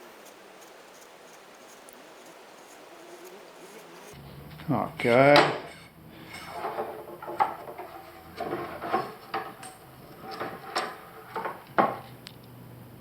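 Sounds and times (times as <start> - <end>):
tent poles clicking and knocking: 0.0 - 12.6.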